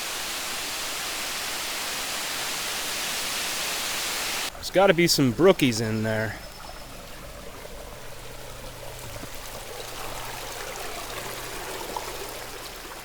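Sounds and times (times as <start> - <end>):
stream water rushing and trickling: 0.0 - 13.0.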